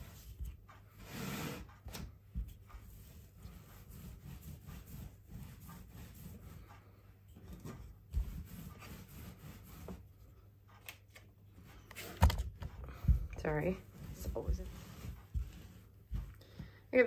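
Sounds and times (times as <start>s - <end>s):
rolling pin rubbing on dough: 0.0s - 10.4s, 12.9s - 16.4s.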